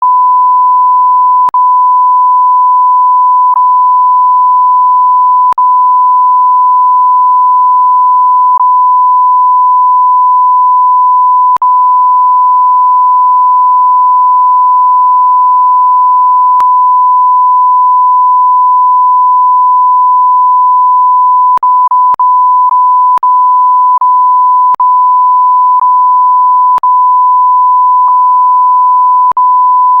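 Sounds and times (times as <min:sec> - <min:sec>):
censor bleep tone: 0:00.0 - 0:30.0.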